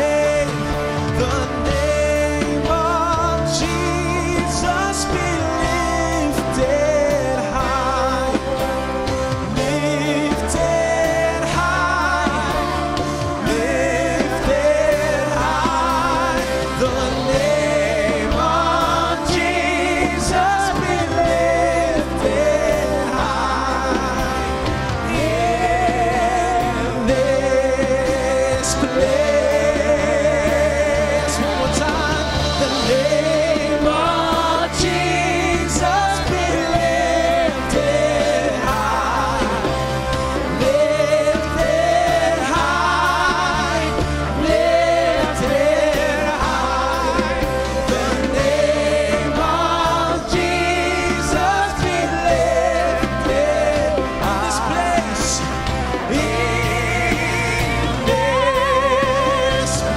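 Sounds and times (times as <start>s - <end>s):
bass guitar: 0.0s - 59.9s
drums: 0.0s - 59.9s
keyboard: 0.0s - 59.9s
singers holding long notes: 0.0s - 59.9s.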